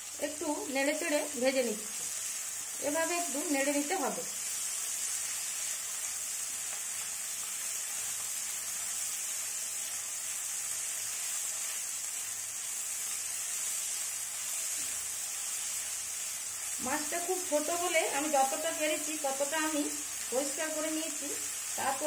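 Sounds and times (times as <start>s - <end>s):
prawns sizzling in hot oil: 0.0s - 22.0s.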